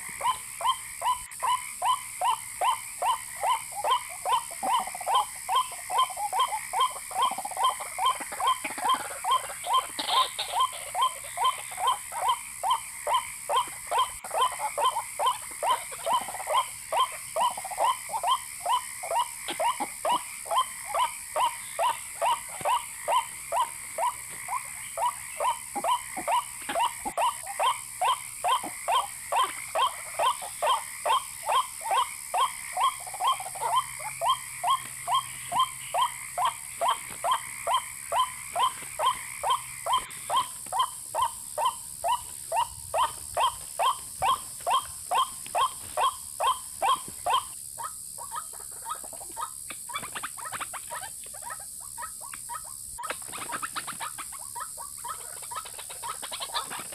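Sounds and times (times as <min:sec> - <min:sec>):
waterhen calling: 0:00.0 - 0:56.9.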